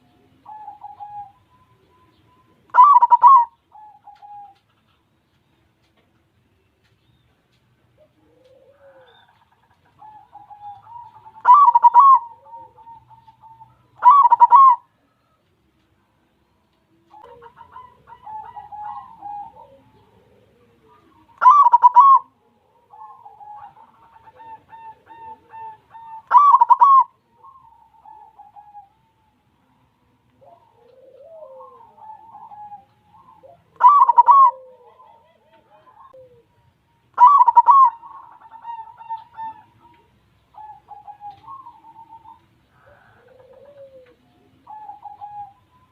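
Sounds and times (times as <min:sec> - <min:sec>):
dove cooing: 0:00.0 - 0:05.1, 0:07.8 - 0:15.5, 0:16.9 - 0:45.9.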